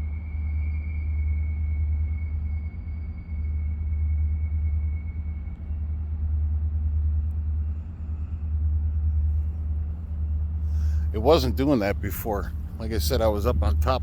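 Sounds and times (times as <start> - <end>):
deep low rumble: 0.0 - 14.0.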